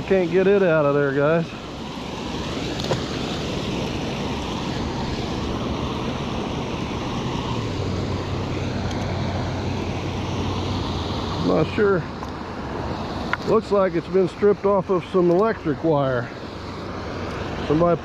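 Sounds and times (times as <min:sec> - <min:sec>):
river water rushing over dam: 0:00.0 - 0:18.0.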